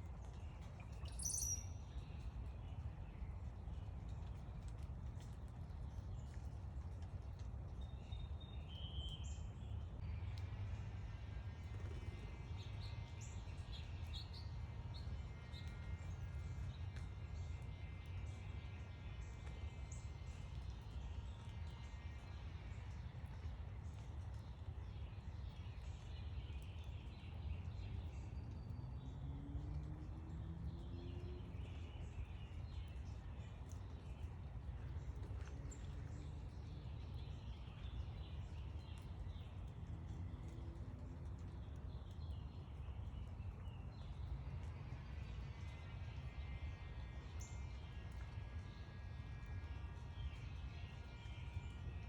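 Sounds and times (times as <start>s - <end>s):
low outdoor rumble: 0.0s - 52.0s
small birds chirping faintly: 0.0s - 52.0s.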